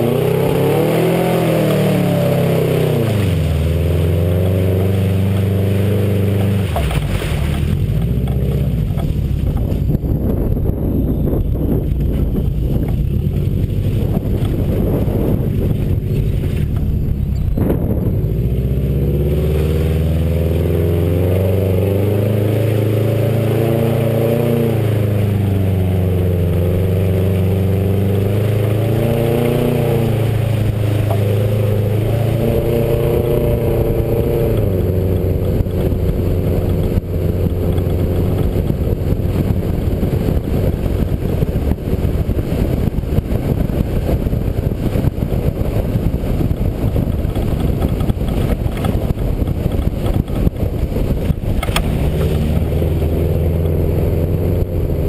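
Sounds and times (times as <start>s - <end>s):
car engine revving: 0.0s - 55.0s
road rumble: 0.0s - 55.0s
wind noise: 0.0s - 55.0s.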